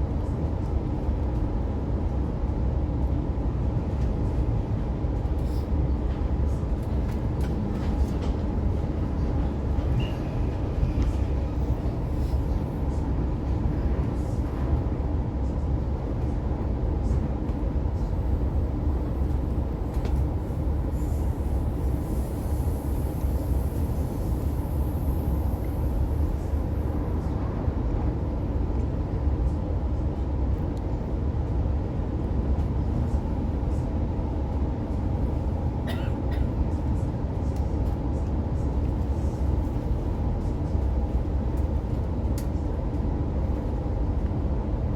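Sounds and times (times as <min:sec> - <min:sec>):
constant hum: 0:00.0 - 0:44.9
train wheels rumbling on track: 0:00.0 - 0:44.9.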